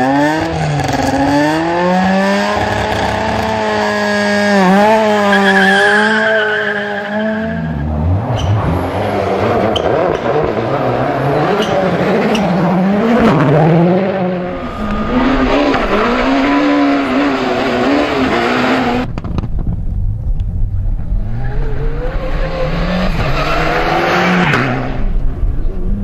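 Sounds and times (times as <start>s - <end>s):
distant car engine: 0.0s - 26.0s
rally car engine revving: 0.0s - 26.0s.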